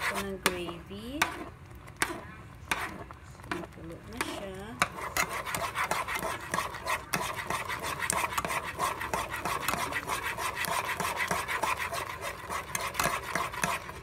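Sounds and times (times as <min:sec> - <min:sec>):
metal utensil scraping a saucepan: 0:00.0 - 0:14.0.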